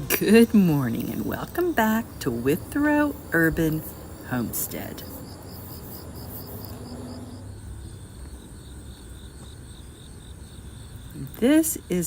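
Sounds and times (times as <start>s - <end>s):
crickets chirping: 0.0s - 12.0s
low steady rumble: 0.0s - 12.0s.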